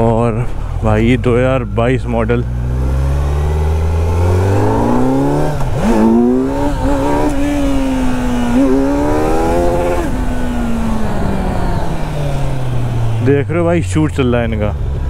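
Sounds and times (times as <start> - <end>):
motorcycle engine accelerating: 1.0 - 15.0.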